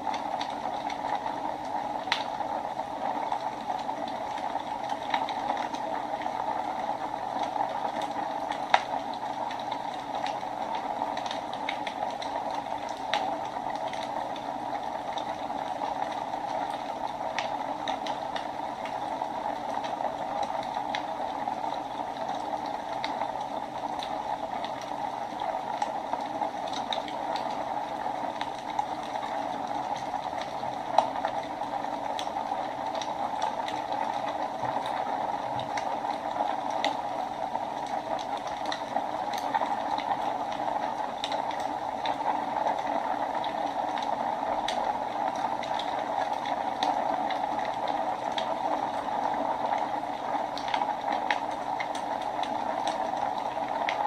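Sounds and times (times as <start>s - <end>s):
fire crackling and popping: 0.0s - 54.0s
wood fire hissing: 0.0s - 54.0s.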